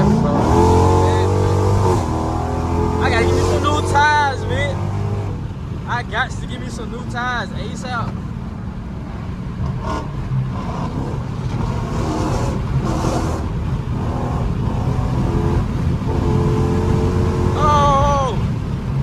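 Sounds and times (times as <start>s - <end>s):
car exhaust drone: 0.0s - 19.0s.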